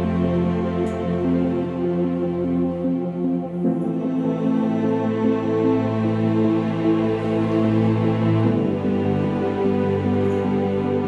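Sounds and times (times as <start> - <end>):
gentle new-age music: 0.0 - 11.0.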